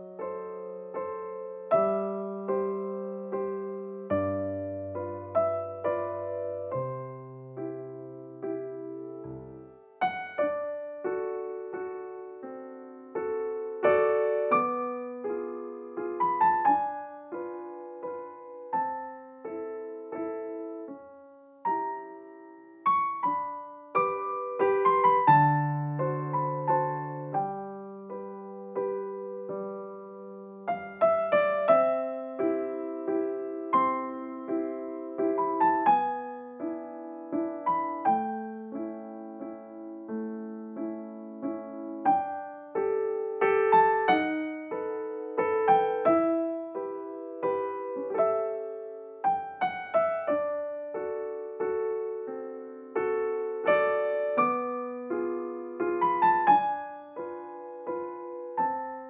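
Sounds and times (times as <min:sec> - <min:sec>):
gentle solo piano melody: 0:00.0 - 0:59.0.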